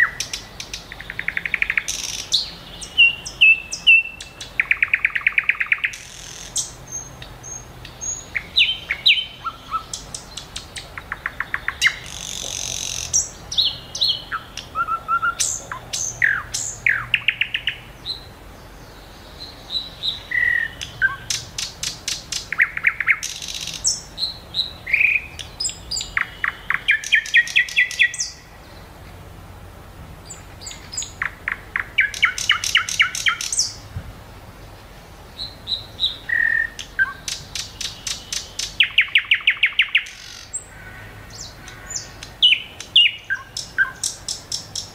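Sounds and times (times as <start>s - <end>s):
small birds chirping and singing: 0.0s - 29.2s, 30.2s - 44.9s.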